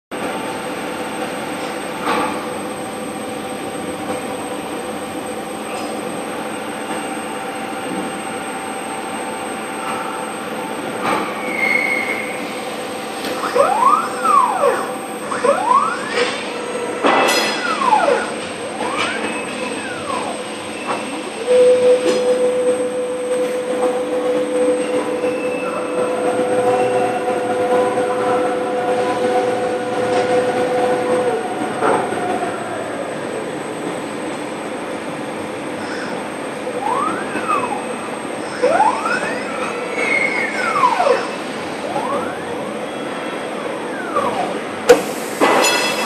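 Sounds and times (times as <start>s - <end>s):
machine motors humming: 0.2s - 46.0s.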